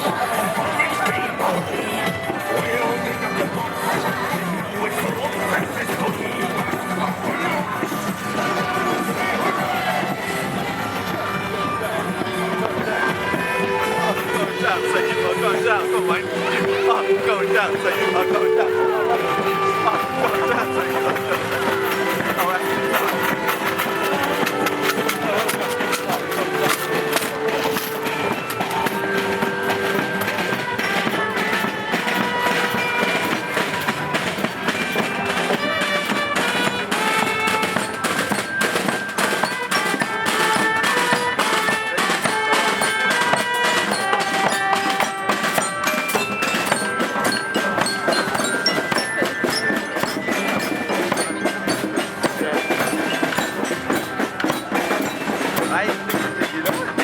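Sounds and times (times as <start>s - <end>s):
bell-like mallet notes: 0.0s - 57.0s
busy clicking beat: 0.0s - 57.0s.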